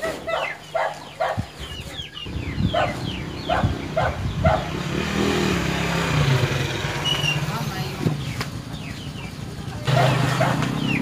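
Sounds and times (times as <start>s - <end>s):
chickens clucking: 0.0s - 5.8s, 7.2s - 11.0s
low engine rumble: 0.3s - 11.0s.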